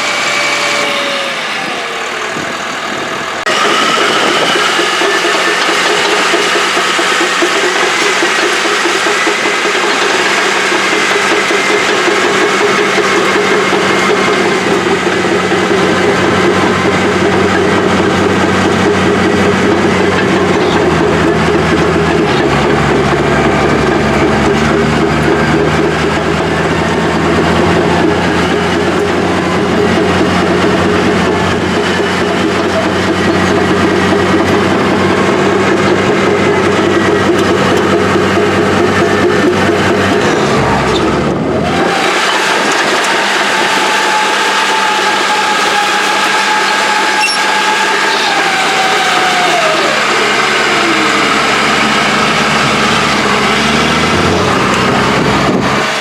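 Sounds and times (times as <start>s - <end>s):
heavy equipment engine running: 0.0s - 56.0s.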